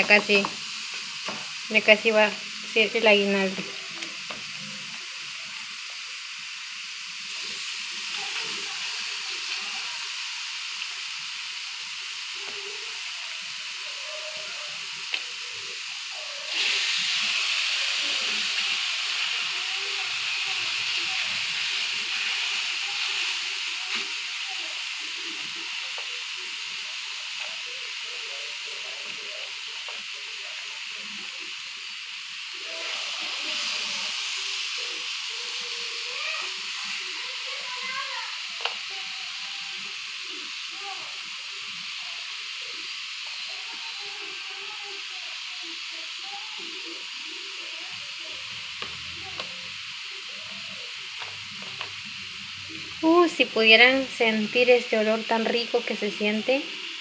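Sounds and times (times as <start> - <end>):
meat sizzling on grill: 0.0 - 57.0.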